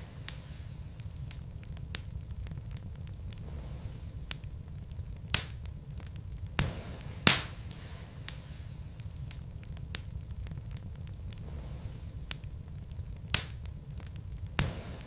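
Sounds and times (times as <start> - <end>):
logs crackling and popping: 0.0 - 15.0
low fire rumble: 0.0 - 15.0.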